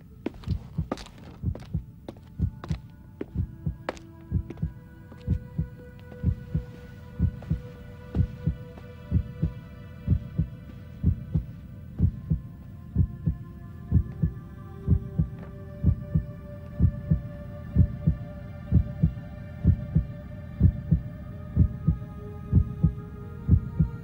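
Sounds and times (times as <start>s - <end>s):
slow heartbeat thumps: 0.3s - 24.0s.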